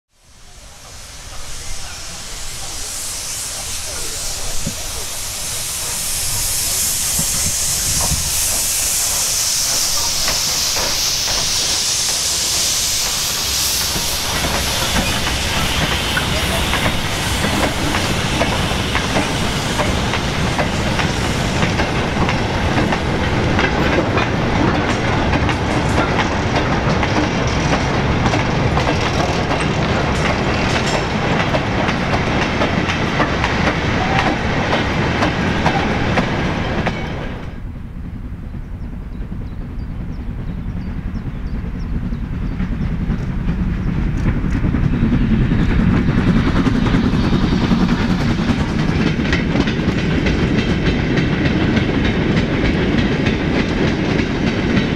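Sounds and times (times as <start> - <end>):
steam train approaching: 0.1 - 54.9
freight train wheels clattering: 0.8 - 37.6, 38.8 - 54.9.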